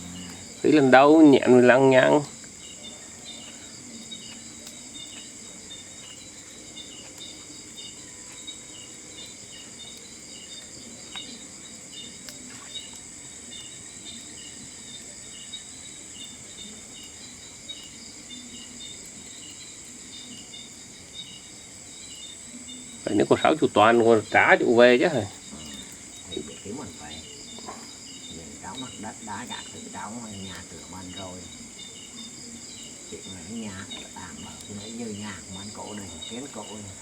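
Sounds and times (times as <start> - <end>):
crickets trilling and chirping: 0.0 - 37.0.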